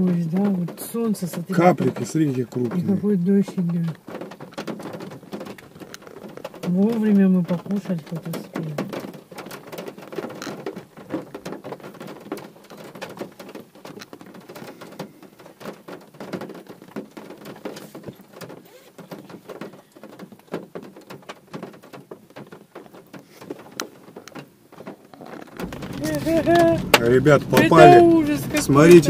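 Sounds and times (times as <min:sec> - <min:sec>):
rain pattering on car roof: 0:00.0 - 0:29.0.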